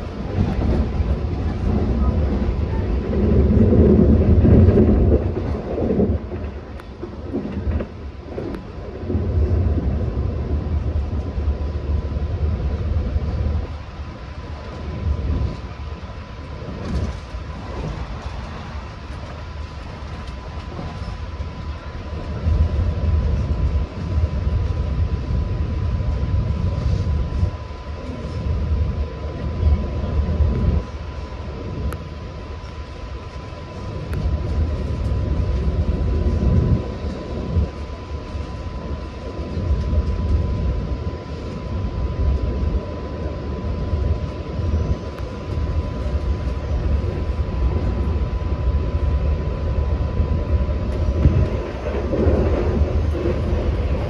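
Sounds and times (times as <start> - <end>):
high whine: 0.0 - 54.0
train running at speed: 0.0 - 54.0.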